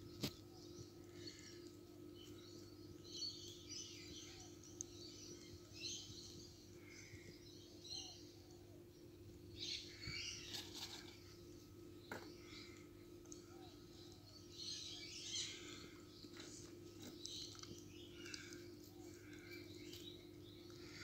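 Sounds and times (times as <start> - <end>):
faint birds chirping and singing: 0.0 - 21.0
steady low hum: 0.0 - 21.0.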